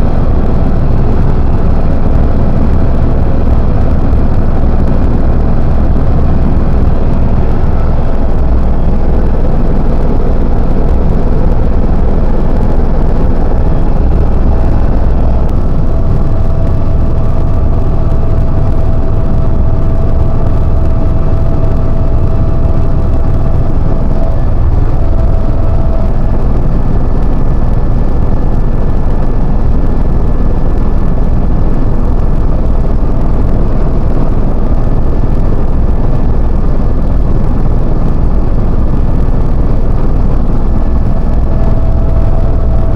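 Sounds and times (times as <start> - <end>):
faint whining tones: 0.0 - 42.9
helicopter engine and rotor drone: 0.0 - 42.9.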